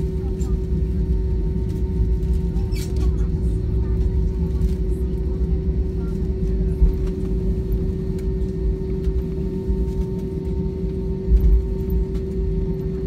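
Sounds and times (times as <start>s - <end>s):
jet engines idling hum: 0.0s - 13.0s.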